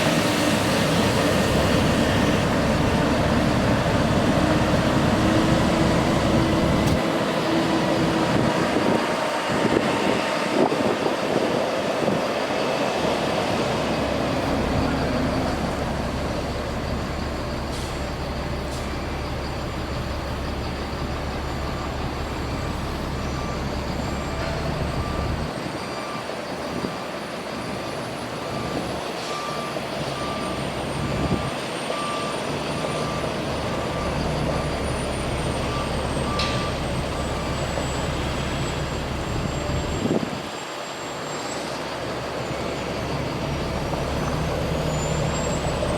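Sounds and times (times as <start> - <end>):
diesel truck engine running: 0.0 - 45.9
reversing alarm beeping: 0.1 - 45.9.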